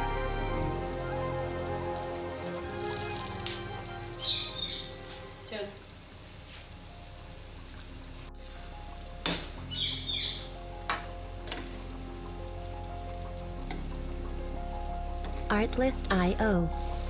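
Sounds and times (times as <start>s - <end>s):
sauce sizzling and bubbling: 0.0s - 17.0s
soft background music: 0.0s - 17.0s.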